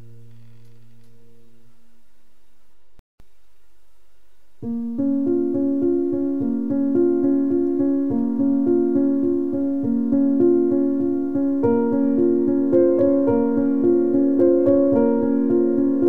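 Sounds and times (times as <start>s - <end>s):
piano music: 0.0s - 1.8s, 4.6s - 16.0s.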